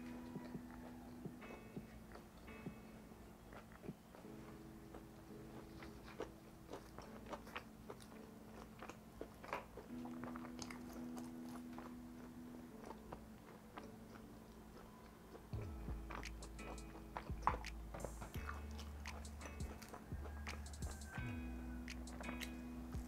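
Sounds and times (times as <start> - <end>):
chewing with soft crunches: 0.0 - 2.7, 3.4 - 23.0.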